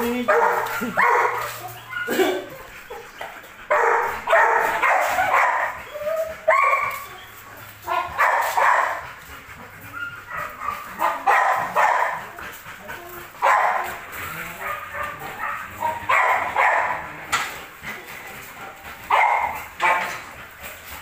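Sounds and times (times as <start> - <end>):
dog barking and yelping: 0.2 - 21.0.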